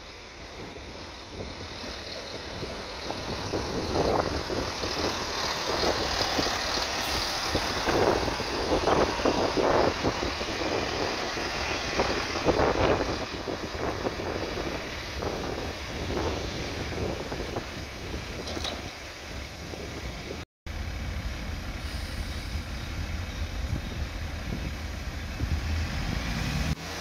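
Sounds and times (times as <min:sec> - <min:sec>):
train running: 0:00.0 - 0:27.0
wind buffeting microphone: 0:00.5 - 0:20.4, 0:22.5 - 0:26.8.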